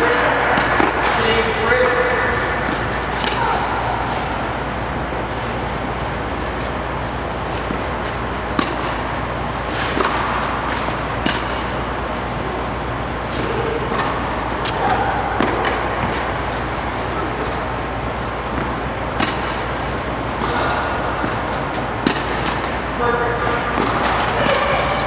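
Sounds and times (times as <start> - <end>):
tennis balls struck and bouncing: 0.0 - 4.4, 5.1 - 23.0, 23.6 - 25.0
steady background hum: 0.0 - 25.0.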